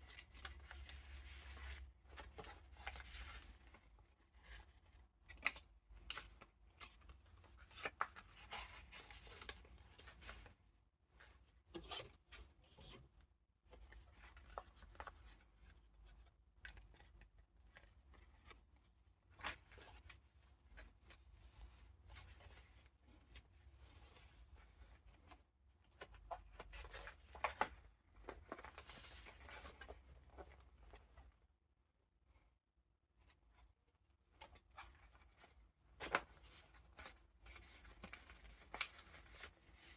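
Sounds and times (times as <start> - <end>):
paper rustling and crinkling: 0.0 - 10.5, 13.7 - 31.2, 34.4 - 39.9.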